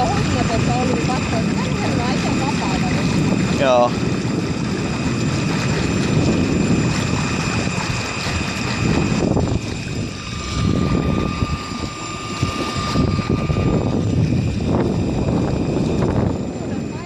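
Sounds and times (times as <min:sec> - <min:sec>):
high whine: 0:00.0 - 0:17.0
low rumble: 0:00.0 - 0:17.0
mid-pitched whine: 0:00.0 - 0:17.0
outboard motor running: 0:00.0 - 0:17.0.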